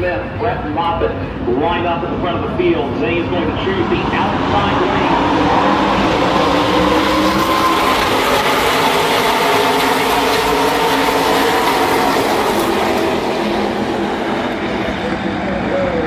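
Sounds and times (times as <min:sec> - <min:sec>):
race trucks engines at full throttle: 0:00.0 - 0:16.0.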